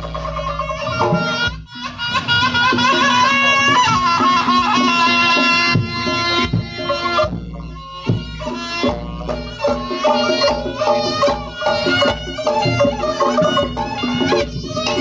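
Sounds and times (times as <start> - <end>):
hand drum strikes: 0.0 - 1.6, 2.6 - 15.0
reedy wind instrument melody: 0.0 - 15.0.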